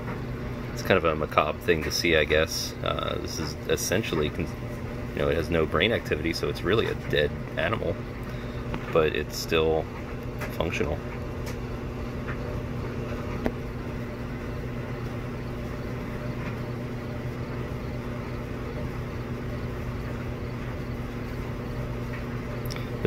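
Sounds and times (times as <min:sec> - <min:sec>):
machinery hum: 0:00.0 - 0:23.0.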